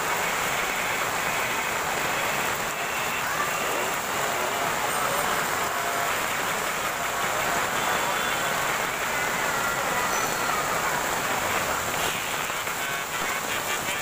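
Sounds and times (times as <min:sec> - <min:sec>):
heavy rain on street: 0:00.0 - 0:14.0.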